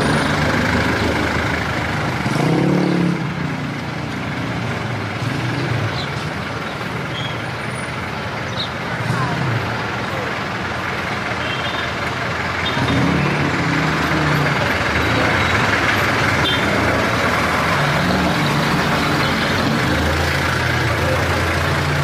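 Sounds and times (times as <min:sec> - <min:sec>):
road noise: 0:00.0 - 0:22.0
vehicle engines idling and running: 0:00.0 - 0:22.0.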